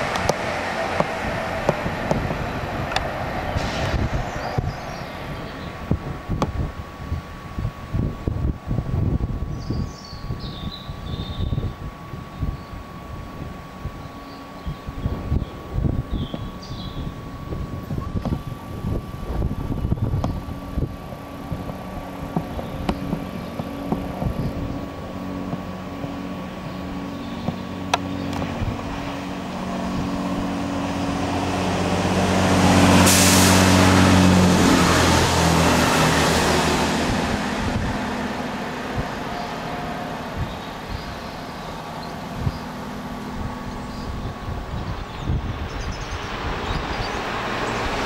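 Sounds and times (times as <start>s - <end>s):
train wheels rushing on rails: 0.0s - 7.5s, 14.4s - 48.0s
diesel train engine hum: 0.0s - 48.0s.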